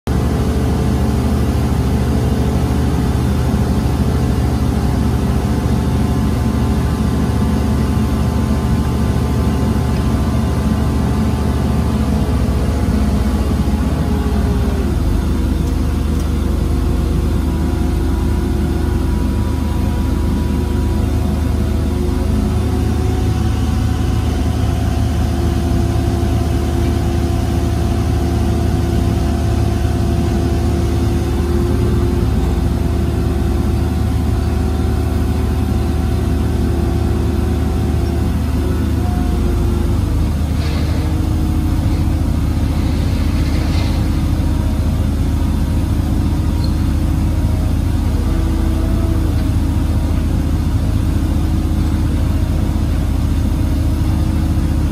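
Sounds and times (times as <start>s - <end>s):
crane diesel engine running: 0.0s - 54.9s.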